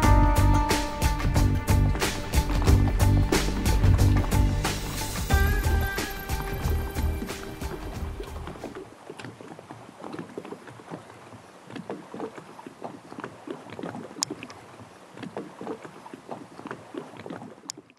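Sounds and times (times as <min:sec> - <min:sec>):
lake water lapping and splashing: 0:00.0 - 0:17.9.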